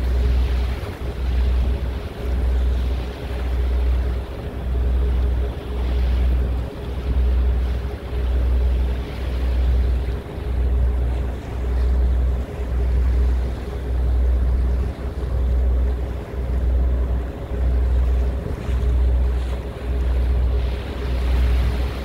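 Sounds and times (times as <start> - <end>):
boat engine drone: 0.0 - 22.0
water rushing: 0.0 - 22.0
wind buffeting microphone: 0.0 - 22.0.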